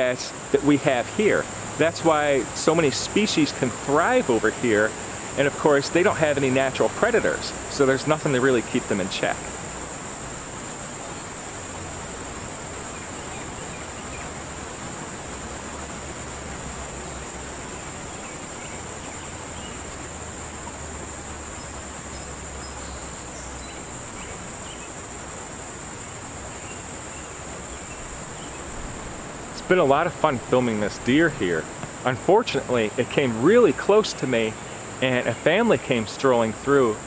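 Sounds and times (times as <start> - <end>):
insects singing: 0.0 - 37.0.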